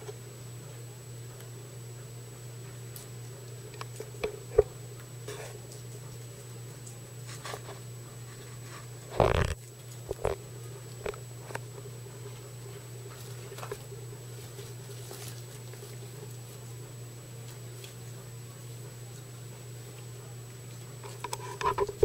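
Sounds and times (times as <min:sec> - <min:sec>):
guinea pigs eating in hay: 0:00.0 - 0:22.0
steady low hum: 0:00.0 - 0:22.0.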